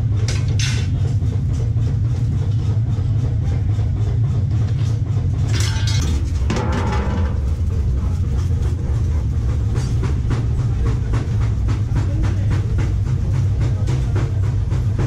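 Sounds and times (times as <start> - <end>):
machinery humming: 0.0 - 15.0
sharp metallic clicks and knocks: 0.1 - 2.8, 4.6 - 15.0.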